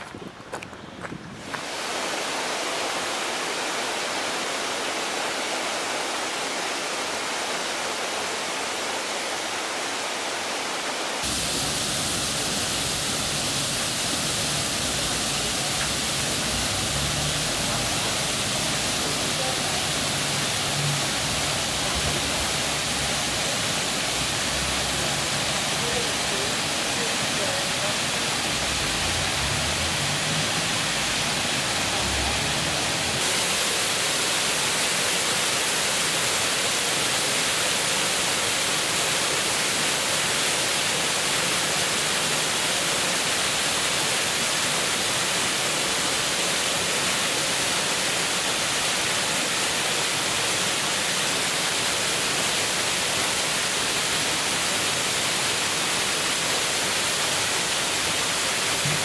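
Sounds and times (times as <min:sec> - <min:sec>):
small waterfall splashing over rocks: 0:01.4 - 0:59.0.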